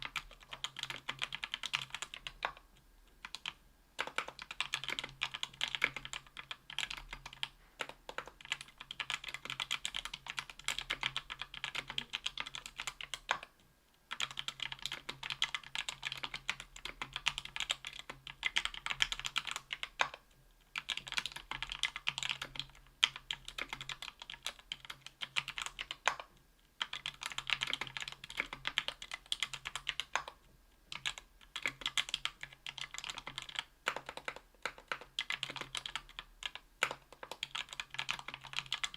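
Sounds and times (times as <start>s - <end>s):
typing on a mechanical keyboard: 0.0s - 13.5s, 14.1s - 38.9s.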